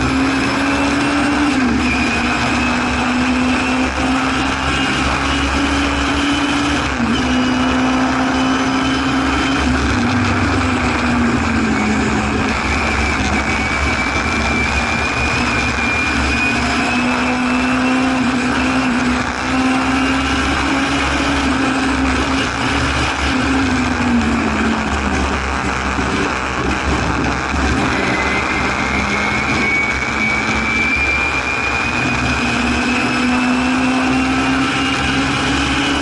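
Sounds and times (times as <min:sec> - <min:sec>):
race car engine at high revs: 0:00.0 - 0:36.0
road and wind noise: 0:00.0 - 0:36.0.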